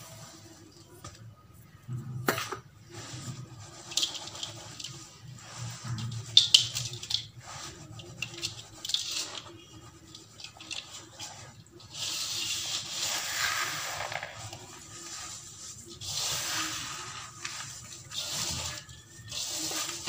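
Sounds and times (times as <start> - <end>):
gritty mix rubbed between hands: 2.8 - 20.0.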